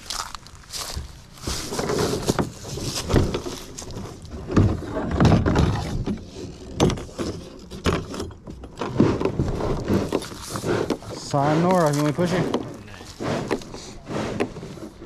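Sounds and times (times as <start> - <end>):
plastic kayak hull scraping: 0.7 - 15.0
irregular thumps: 0.8 - 15.0.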